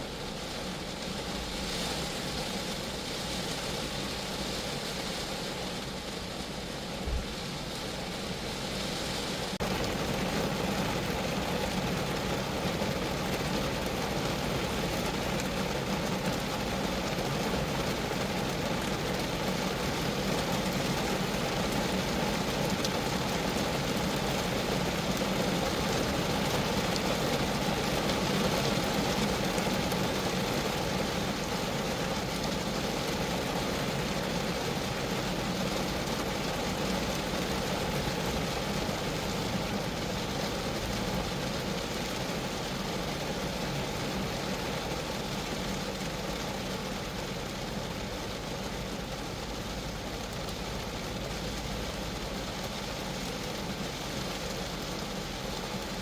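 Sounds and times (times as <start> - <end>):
rain on car body: 0.0 - 56.0.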